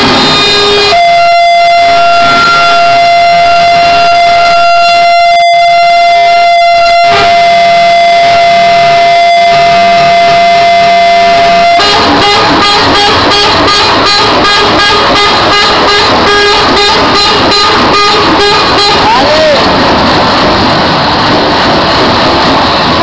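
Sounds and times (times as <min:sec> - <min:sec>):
truck air horn: 0:00.0 - 0:19.7.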